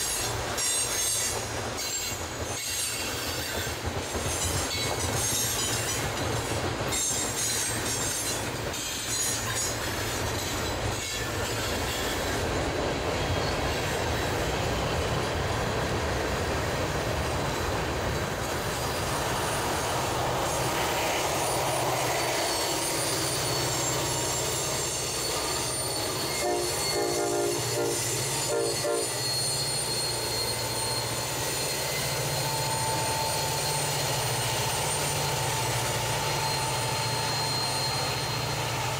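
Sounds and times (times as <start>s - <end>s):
high wheel squeal: 0.0s - 6.2s, 7.0s - 15.1s, 18.5s - 38.9s
diesel locomotive drone: 0.0s - 38.9s
train wheel clatter: 0.0s - 38.9s.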